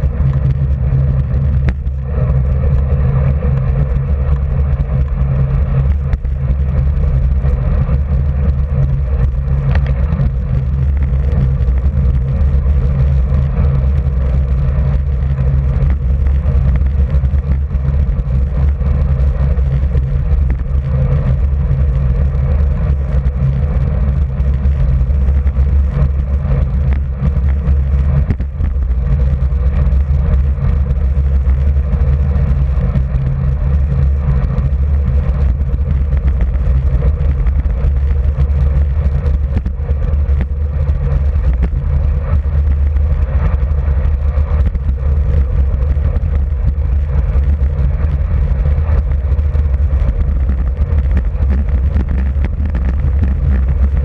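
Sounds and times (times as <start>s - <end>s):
bicycle tyre noise on asphalt: 0.0s - 54.0s
wind rumble on microphone: 0.0s - 54.0s.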